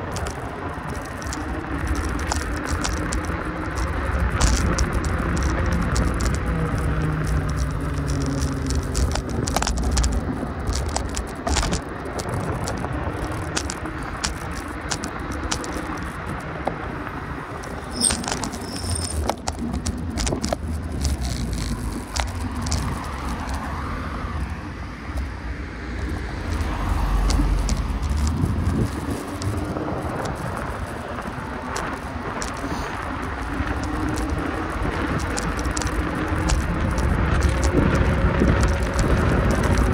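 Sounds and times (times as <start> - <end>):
rattles and clicks: 0.0 - 23.8, 26.0 - 39.9
vehicle rumble: 0.0 - 39.9.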